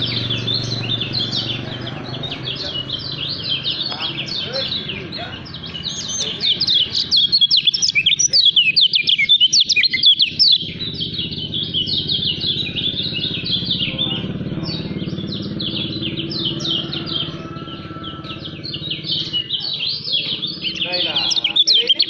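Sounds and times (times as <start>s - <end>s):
bird singing high chirps: 0.0s - 22.0s.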